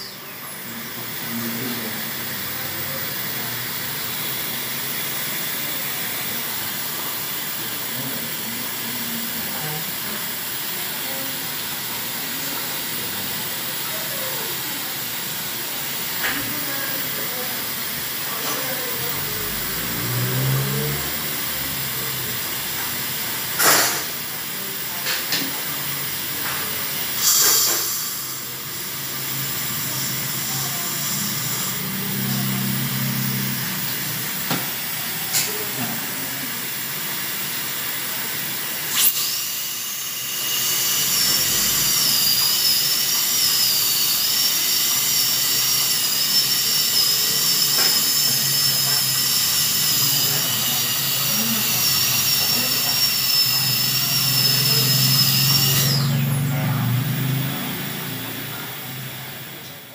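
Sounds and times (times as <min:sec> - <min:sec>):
dental drill whining: 0:00.0 - 0:59.9.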